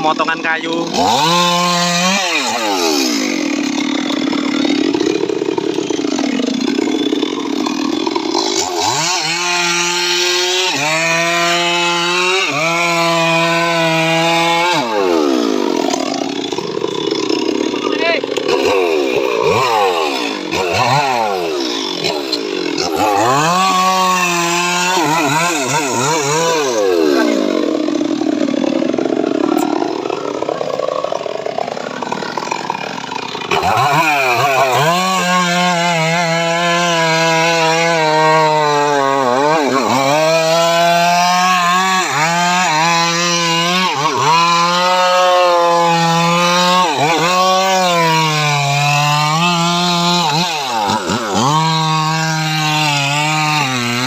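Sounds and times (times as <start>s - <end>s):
chainsaw sawmill cutting wood: 0.0s - 54.0s.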